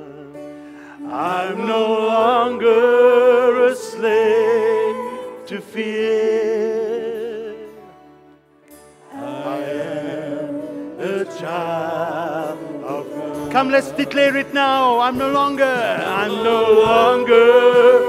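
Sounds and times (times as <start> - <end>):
person singing with vibrato: 0.0 - 8.1, 9.0 - 18.0
worship band playing slow song: 0.0 - 18.0.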